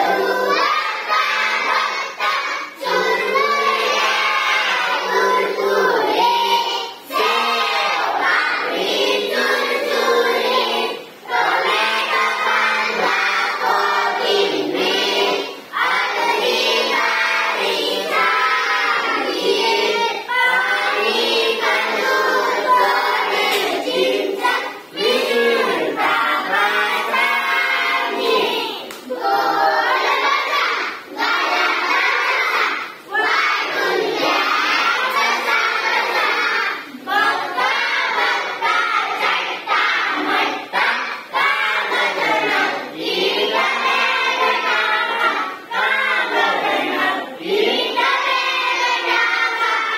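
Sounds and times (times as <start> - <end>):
children singing in chorus: 0.0 - 49.9.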